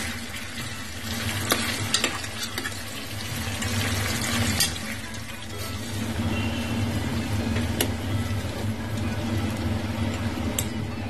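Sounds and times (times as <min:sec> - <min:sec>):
meat frying in oil: 0:00.0 - 0:08.9.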